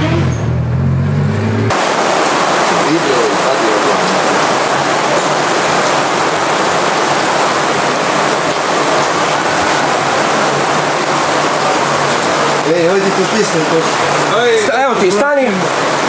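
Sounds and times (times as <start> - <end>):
rain on fabric tent: 1.7 - 16.0.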